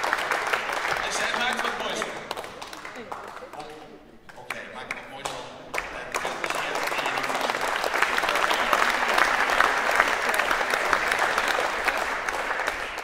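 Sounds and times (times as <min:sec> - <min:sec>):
audience applauding: 0:00.0 - 0:03.8, 0:04.4 - 0:13.0.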